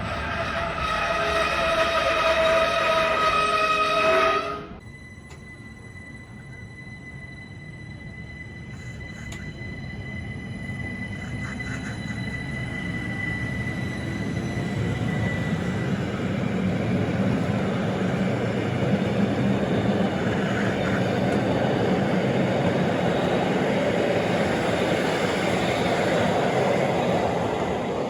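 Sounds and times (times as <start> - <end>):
high wheel squeal: 0.0 - 27.9
train wheels rumbling on rails: 0.0 - 28.0.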